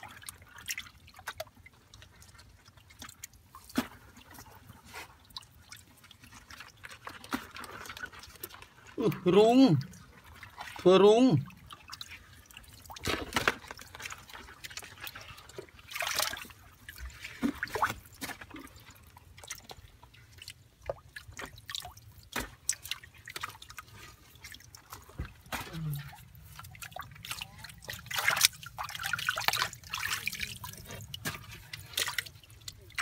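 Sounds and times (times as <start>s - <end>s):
hand sloshing in muddy water: 0.0s - 33.0s
water splashing and dripping: 0.0s - 33.0s.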